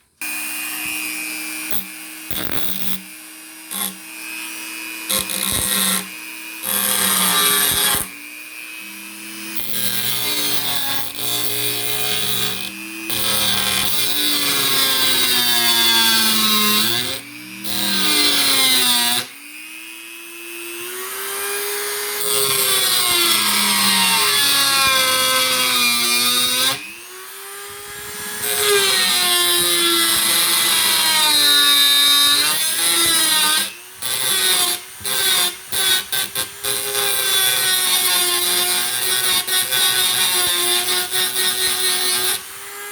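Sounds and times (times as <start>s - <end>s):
power tool grinding: 0.0s - 42.9s.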